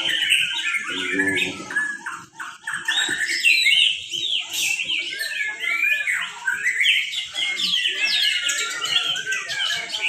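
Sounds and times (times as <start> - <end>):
chorus of birds singing: 0.0 - 10.0.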